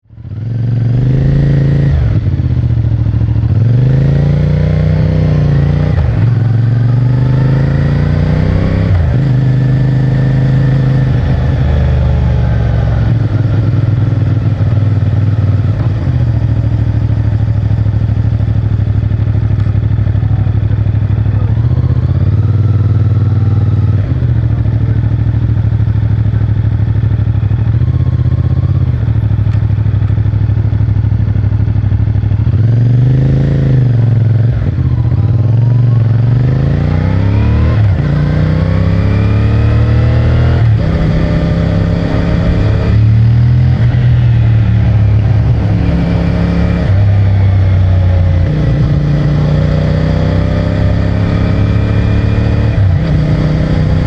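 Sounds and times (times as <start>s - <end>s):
motorcycle engine shifting gears: 0.2s - 54.0s.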